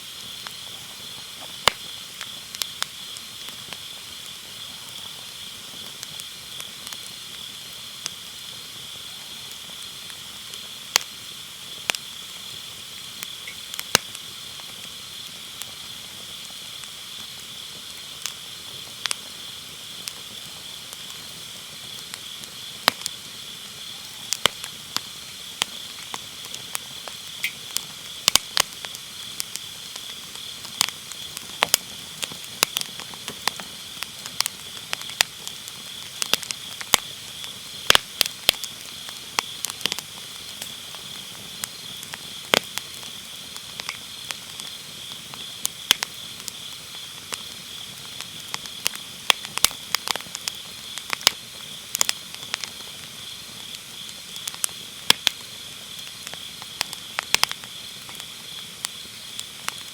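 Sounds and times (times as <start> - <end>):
firewood crackling and popping: 0.0 - 59.9
insects trilling: 0.0 - 59.9.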